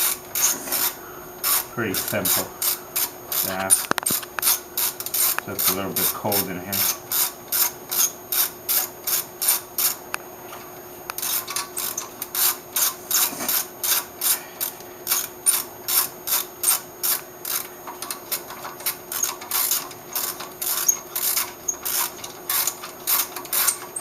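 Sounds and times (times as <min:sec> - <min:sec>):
ratchet wrench rasping: 0:00.0 - 0:10.0, 0:11.1 - 0:24.0.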